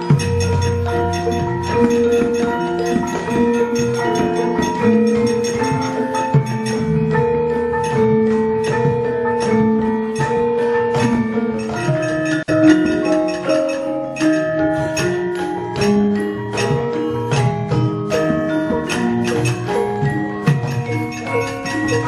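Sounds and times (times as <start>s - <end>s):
gamelan playing: 0.0s - 22.0s
sharp knocks: 0.0s - 22.0s.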